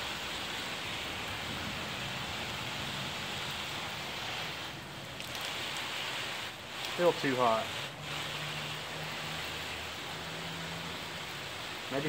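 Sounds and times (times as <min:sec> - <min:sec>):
shower water spraying and splashing: 0:00.0 - 0:12.0.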